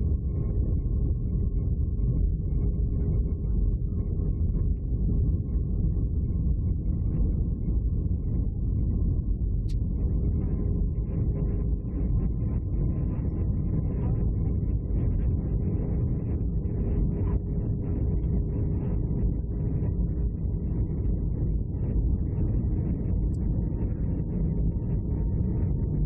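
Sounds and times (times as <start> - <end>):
airliner engine and airflow rumble: 0.0 - 26.0
faint steady hum: 0.0 - 26.0.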